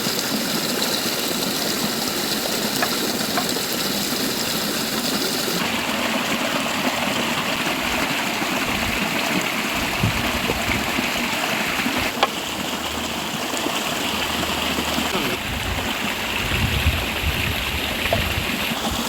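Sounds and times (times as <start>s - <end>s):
river water over rocks: 0.0s - 19.0s.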